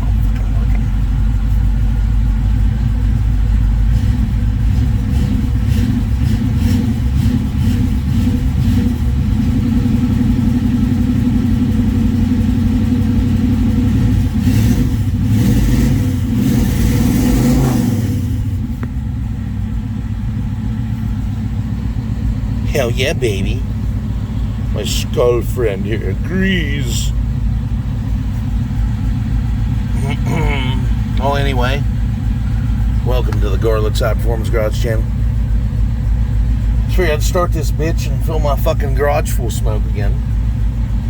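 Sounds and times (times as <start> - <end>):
car engine running: 0.0 - 41.0.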